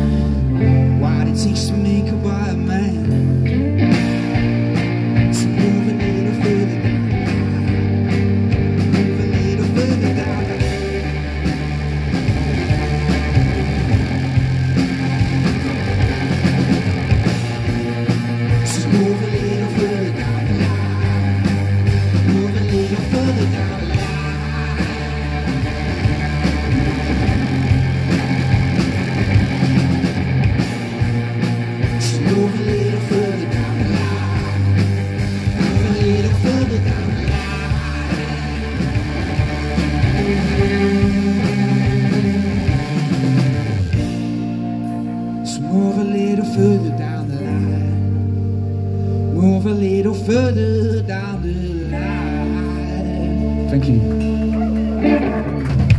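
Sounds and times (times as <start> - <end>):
person singing: 0.0 - 4.2, 5.0 - 17.7, 18.4 - 30.9, 31.8 - 44.3, 44.9 - 55.8
bass guitar: 0.0 - 55.9
drums: 0.0 - 55.9
electric guitar: 0.0 - 55.9.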